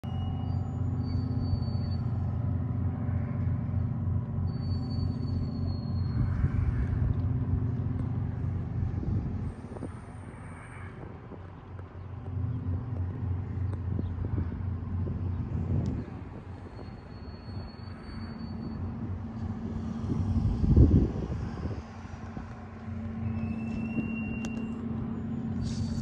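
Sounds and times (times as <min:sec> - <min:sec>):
boat diesel engine drone: 0:00.0 - 0:26.0.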